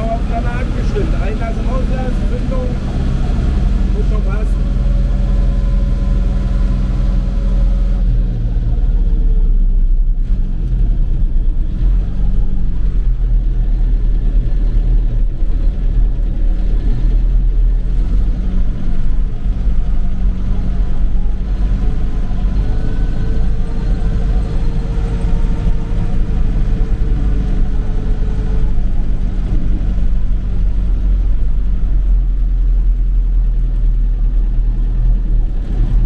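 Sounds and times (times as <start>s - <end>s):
tractor engine running under load: 0.0s - 9.6s, 10.3s - 36.0s.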